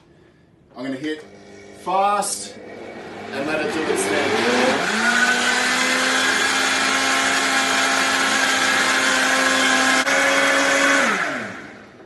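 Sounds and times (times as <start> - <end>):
blender motor whining: 1.2 - 12.0.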